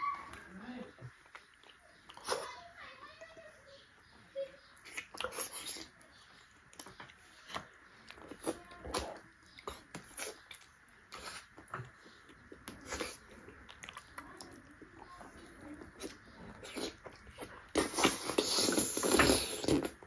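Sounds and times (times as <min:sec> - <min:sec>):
wet chewing and lip smacks: 0:01.1 - 0:02.6, 0:04.7 - 0:20.0.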